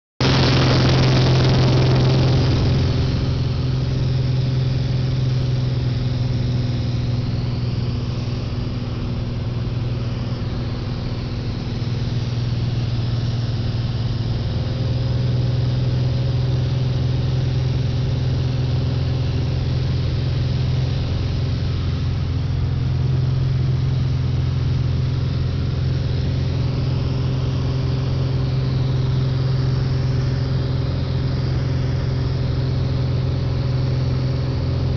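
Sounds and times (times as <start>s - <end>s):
propeller plane engine droning: 0.2s - 34.9s
rushing air in cabin: 0.2s - 34.9s.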